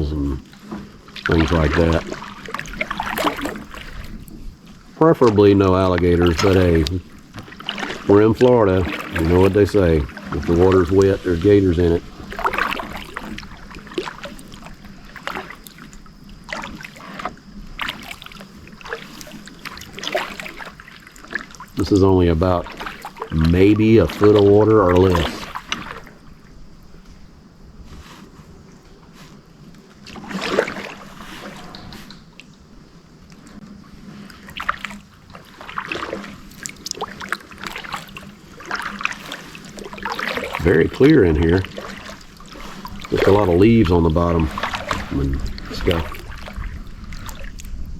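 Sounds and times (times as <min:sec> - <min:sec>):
water dripping: 0:00.0 - 0:27.2, 0:31.7 - 0:47.9
kayak paddle splashing water: 0:00.0 - 0:47.9.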